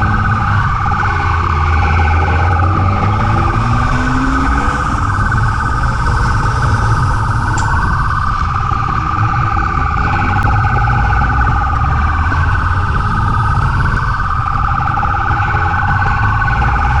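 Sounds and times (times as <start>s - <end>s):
car engine and road rumble: 0.0s - 17.0s
wavering police siren: 0.0s - 17.0s.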